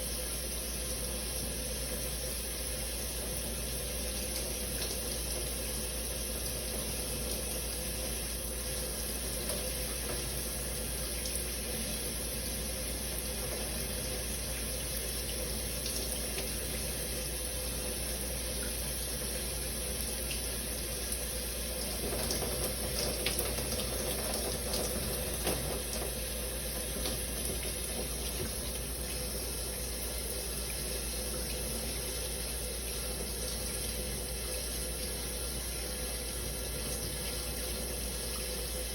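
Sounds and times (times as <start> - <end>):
shower water running: 0.0 - 38.9.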